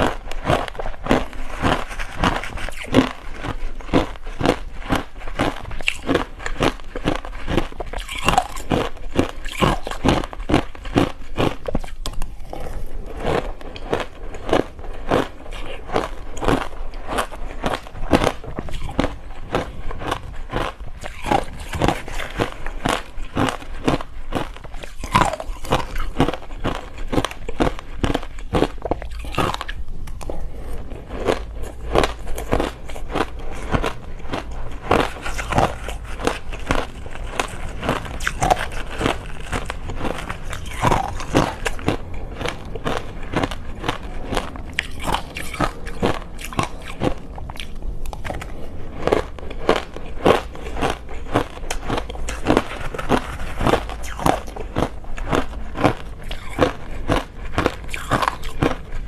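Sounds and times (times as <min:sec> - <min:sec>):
crunching shaved ice: 0:00.0 - 0:59.0
low hum: 0:00.0 - 0:59.0.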